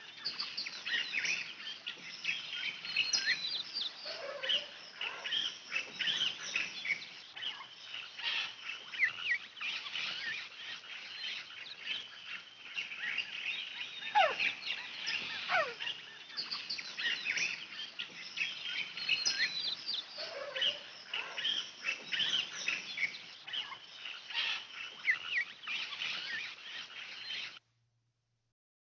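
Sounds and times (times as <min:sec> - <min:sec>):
birds chirping and trilling: 0:00.0 - 0:27.6.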